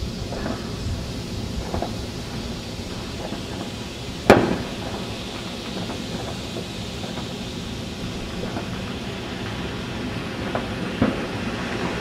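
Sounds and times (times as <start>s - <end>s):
sharp firework bang: 0.0s - 2.1s, 3.0s - 12.0s
firework fountains hissing: 0.0s - 12.0s.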